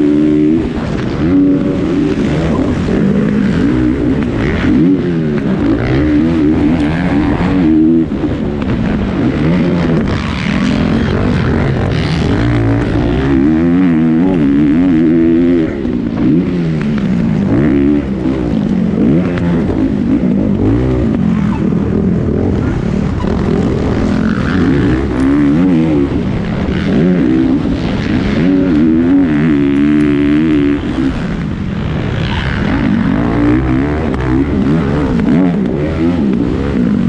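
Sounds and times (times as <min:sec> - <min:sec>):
motocross bike engine revving: 0:00.0 - 0:37.0.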